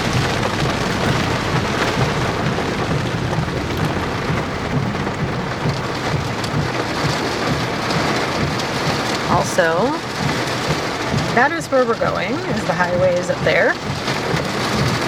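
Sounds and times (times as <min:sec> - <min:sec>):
heavy rain on vehicle roof: 0:00.0 - 0:15.0.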